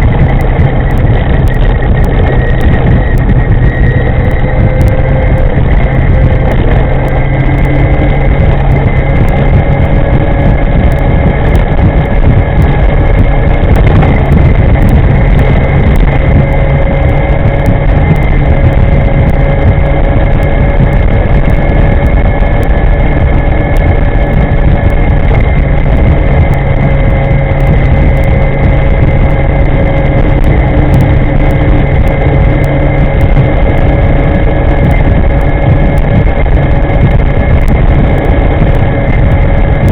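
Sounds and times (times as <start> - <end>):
electric motor whine: 0.0 - 39.9
wind buffeting microphone: 0.0 - 39.9.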